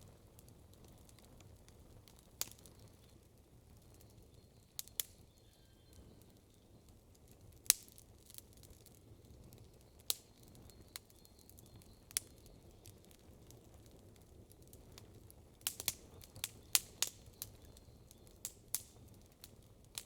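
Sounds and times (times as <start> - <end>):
campfire wood crackling: 0.0 - 20.0.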